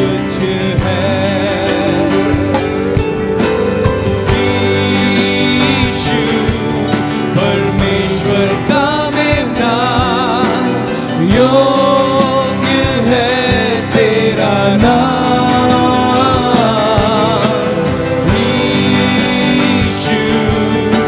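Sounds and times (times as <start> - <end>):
person singing with vibrato: 0.0 - 21.0
worship band playing: 0.0 - 21.0.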